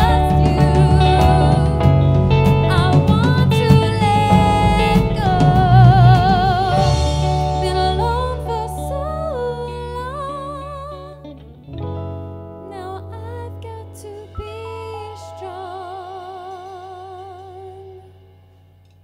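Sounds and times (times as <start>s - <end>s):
woman singing: 0.0s - 11.4s, 12.7s - 18.2s
guitar and bass: 0.0s - 19.0s.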